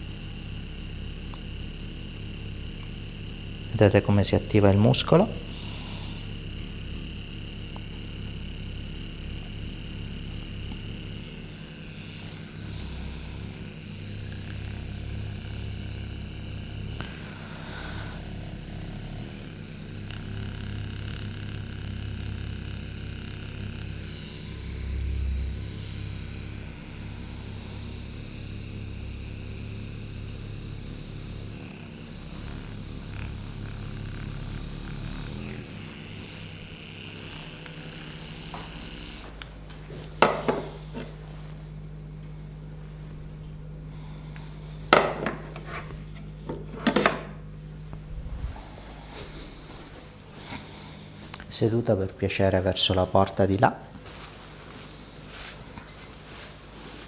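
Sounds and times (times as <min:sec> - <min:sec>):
massage device buzzing hum: 0:00.0 - 0:57.0.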